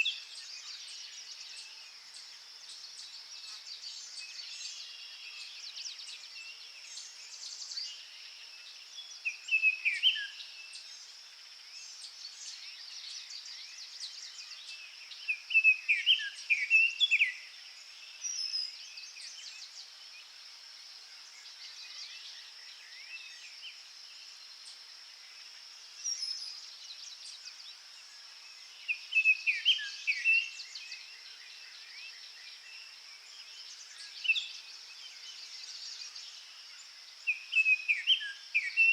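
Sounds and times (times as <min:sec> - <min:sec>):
songbirds calling and singing: 0:00.0 - 0:38.9
steady high-pitched hiss: 0:00.0 - 0:38.9.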